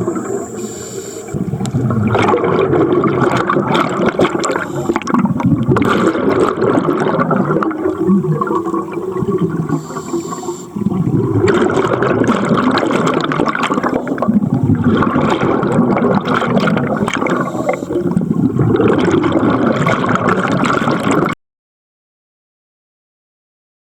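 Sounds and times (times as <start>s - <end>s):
underwater bubbles gurgling: 0.0s - 21.4s.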